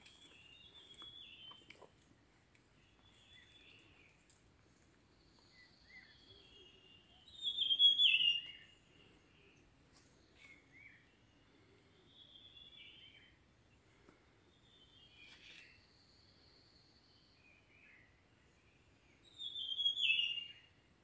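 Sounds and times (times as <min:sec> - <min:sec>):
forest birds singing: 0:00.0 - 0:21.0.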